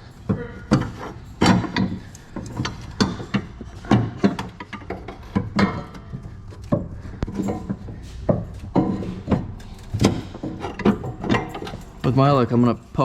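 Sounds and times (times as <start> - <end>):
metal hand tools clinking: 0.0 - 13.0.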